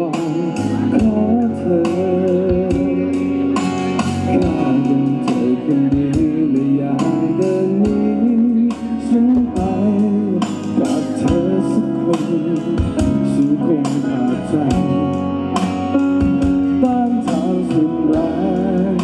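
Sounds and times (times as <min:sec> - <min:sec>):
live rock band playing: 0:00.0 - 0:19.0
man singing: 0:00.0 - 0:19.0.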